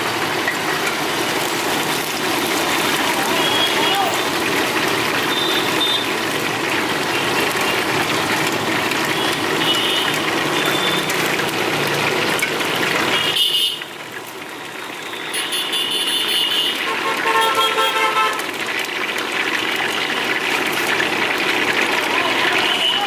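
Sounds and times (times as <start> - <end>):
chicken frying: 0.0 - 23.0.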